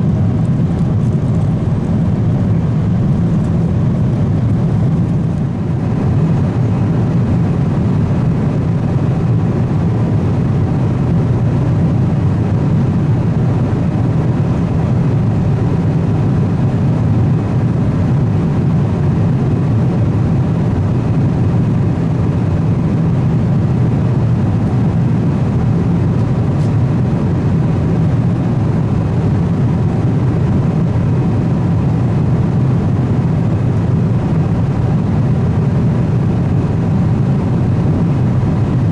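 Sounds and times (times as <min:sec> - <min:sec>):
airplane cabin engine rush: 0:00.0 - 0:38.9.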